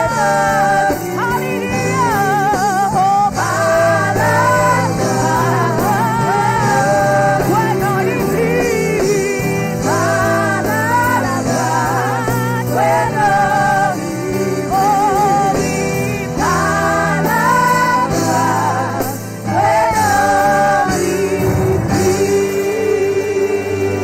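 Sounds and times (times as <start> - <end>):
gospel singing: 0.0 - 24.0
sustained keyboard chords: 0.0 - 24.0.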